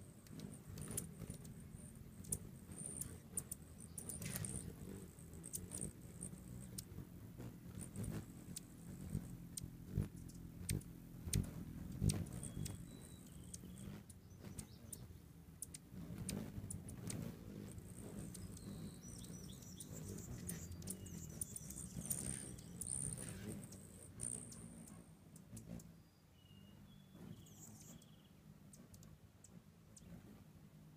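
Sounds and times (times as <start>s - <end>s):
low steady hum: 0.0s - 30.9s
hummingbird chips and squeaky calls: 0.1s - 30.4s.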